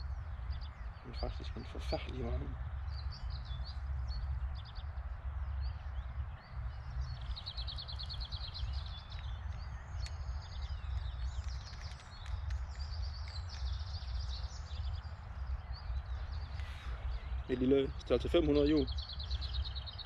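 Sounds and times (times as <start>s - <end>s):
small birds singing: 0.0s - 20.0s
wind rumbling on microphone: 0.0s - 20.0s.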